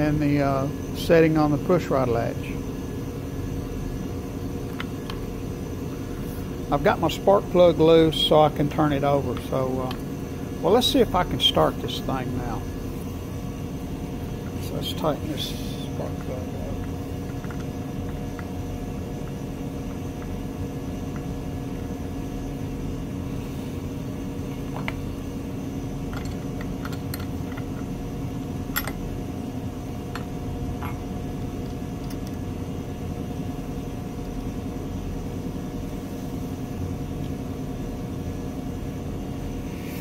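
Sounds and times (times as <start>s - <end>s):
shop background hum: 0.0s - 40.0s.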